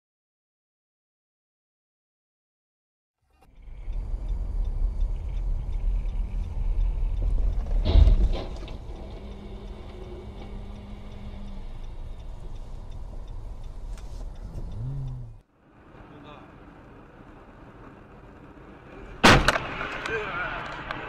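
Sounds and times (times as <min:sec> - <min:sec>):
engine and road rumble: 0:03.2 - 0:21.0.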